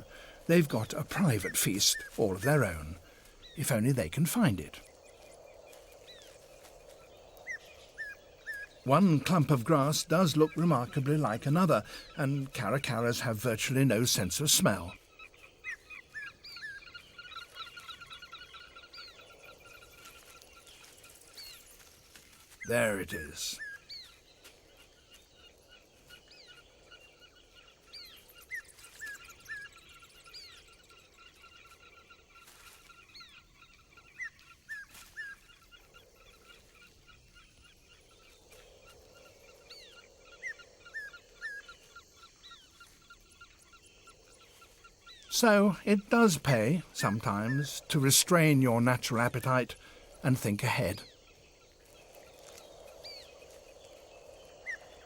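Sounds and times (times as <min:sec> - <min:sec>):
birds chirping: 0:00.0 - 0:55.0
faint natural background: 0:00.0 - 0:55.0.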